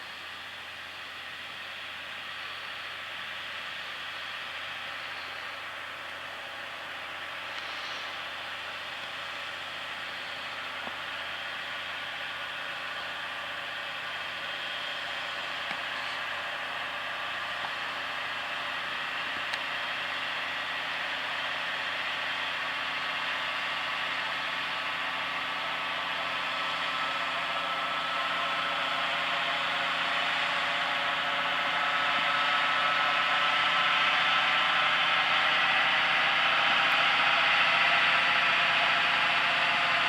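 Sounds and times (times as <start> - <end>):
tractor engine running under load: 0.0 - 40.0.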